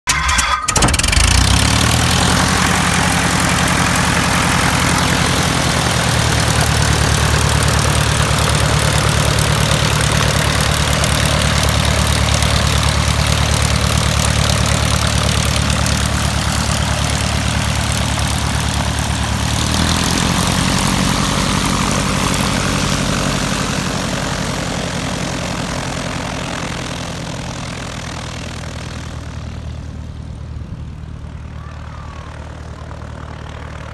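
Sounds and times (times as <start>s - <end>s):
propeller airplane engine running: 0.1s - 33.9s.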